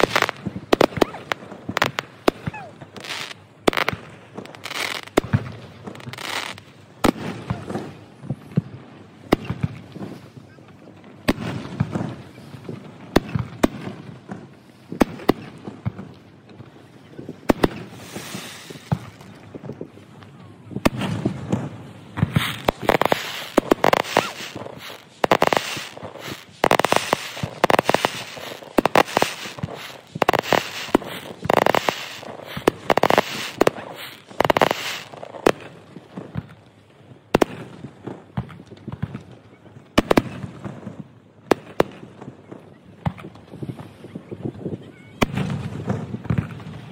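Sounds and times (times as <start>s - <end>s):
fireworks bangs: 0.0s - 46.9s.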